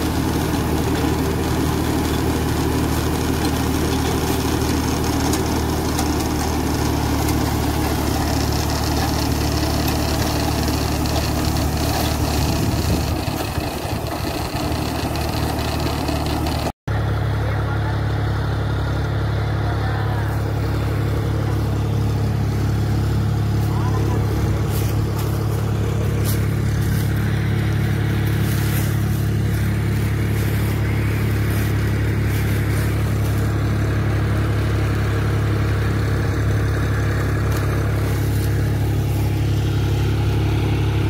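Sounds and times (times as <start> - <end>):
rotavator churning soil: 0.0 - 16.7, 20.4 - 41.0
tractor diesel engine under load: 0.0 - 41.0.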